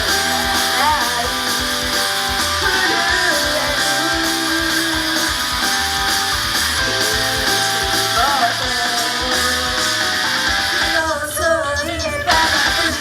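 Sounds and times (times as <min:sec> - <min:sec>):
person singing: 0:00.0 - 0:06.1, 0:06.8 - 0:13.0
rock pop music with electric guitar: 0:00.0 - 0:13.0.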